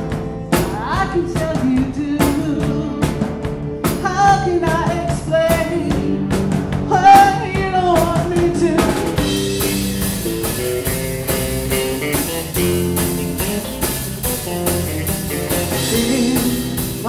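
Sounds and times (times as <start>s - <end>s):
bass guitar: 0.0s - 17.0s
drum kit beat: 0.0s - 17.0s
electric guitars: 0.0s - 17.0s.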